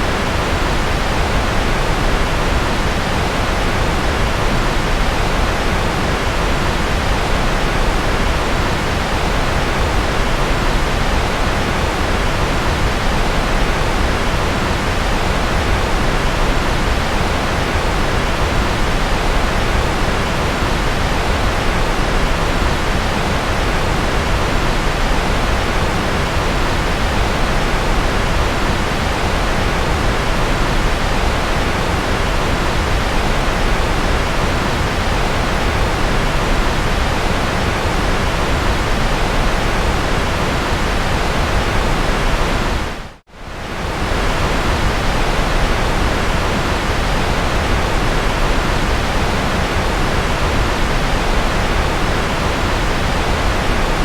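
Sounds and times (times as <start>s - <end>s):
steady white noise rush: 0.0s - 54.0s.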